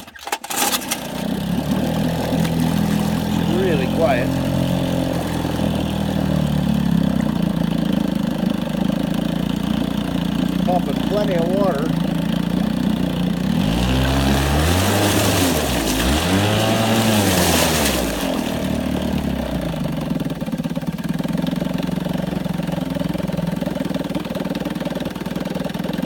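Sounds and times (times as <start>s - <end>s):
outboard motor revving and idling: 0.0s - 26.0s.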